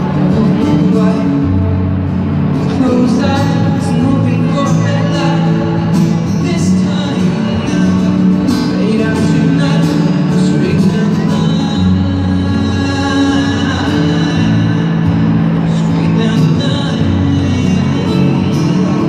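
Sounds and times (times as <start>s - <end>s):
acoustic guitar: 0.0s - 19.0s
man singing: 0.0s - 19.0s.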